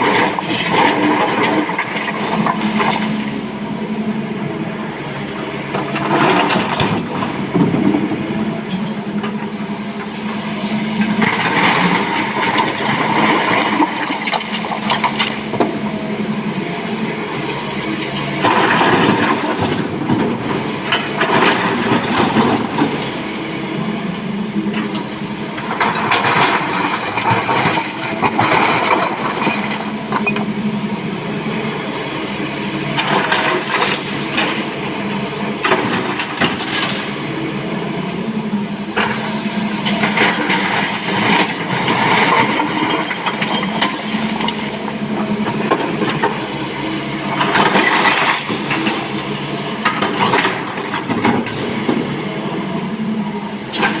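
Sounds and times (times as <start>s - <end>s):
excavator diesel engine working: 0.0s - 54.0s.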